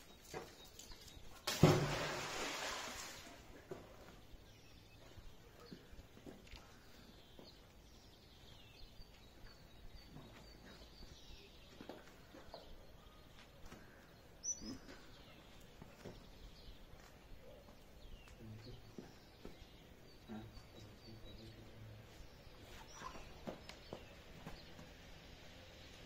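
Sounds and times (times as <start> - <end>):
birds chirping: 0.0 - 2.2, 3.4 - 26.0.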